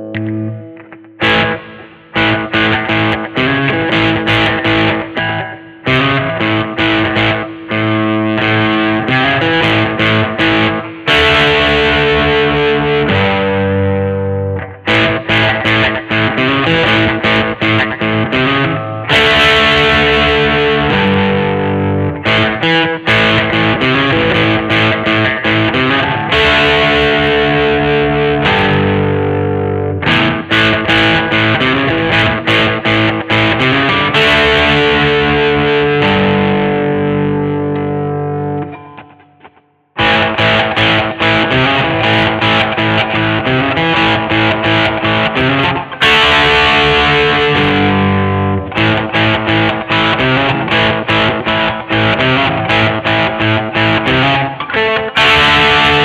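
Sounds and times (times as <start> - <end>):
electric guitar picking and chords: 0.0 - 56.0.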